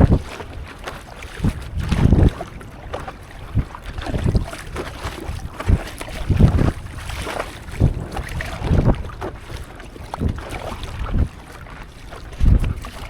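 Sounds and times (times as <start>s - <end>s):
water sloshing around a board: 0.0s - 13.0s
wind noise on microphone: 0.0s - 13.0s.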